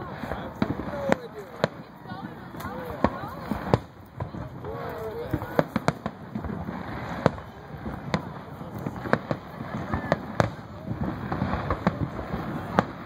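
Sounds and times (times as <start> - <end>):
crowd voices: 0.0 - 13.0
fireworks bangs: 0.0 - 13.0.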